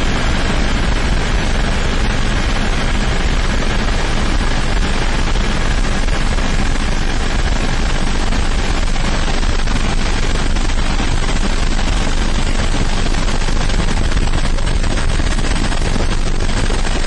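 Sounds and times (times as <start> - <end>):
helicopter rotor chop: 0.0 - 17.0.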